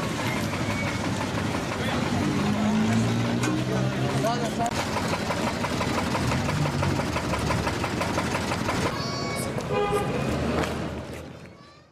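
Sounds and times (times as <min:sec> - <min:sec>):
diesel engine rattling: 0:00.0 - 0:11.4.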